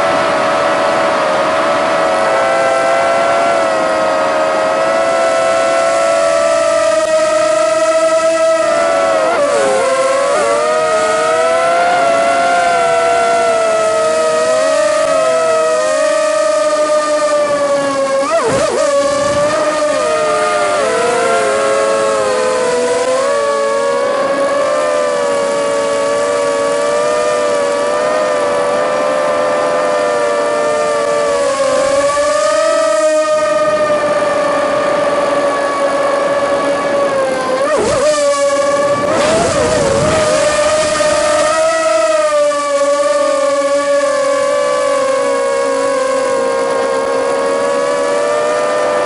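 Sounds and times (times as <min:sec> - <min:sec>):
drone motors whining: 0:00.0 - 0:49.0.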